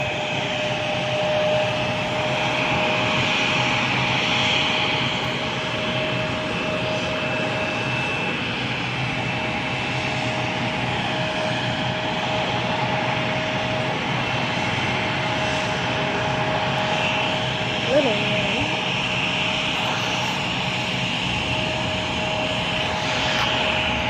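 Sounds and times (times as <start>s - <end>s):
jet engines rushing and whining: 0.0s - 24.0s.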